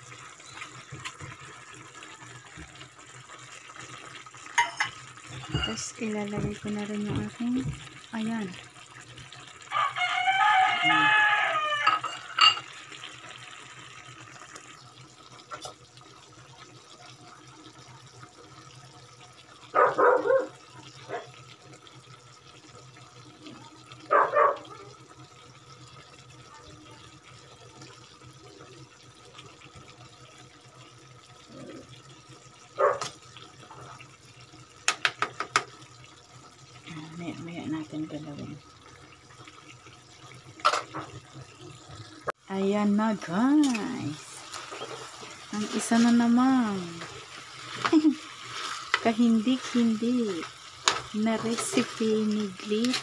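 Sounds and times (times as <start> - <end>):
stew simmering with bubbling hiss: 0.0 - 53.0.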